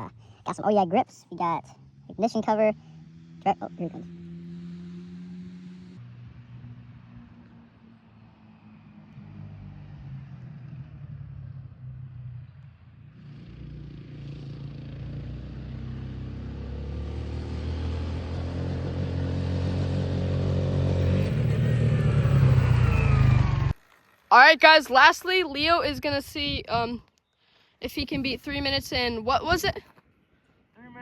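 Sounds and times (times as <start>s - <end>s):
atv engine running: 0.0s - 7.6s, 9.2s - 27.0s, 27.9s - 31.0s.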